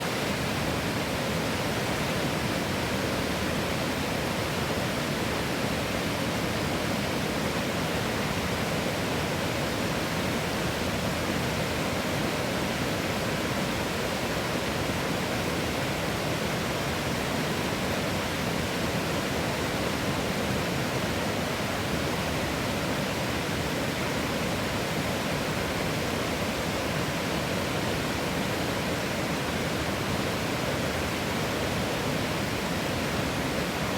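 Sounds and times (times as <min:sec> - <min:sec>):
river water rushing over rocks: 0:00.1 - 0:33.9.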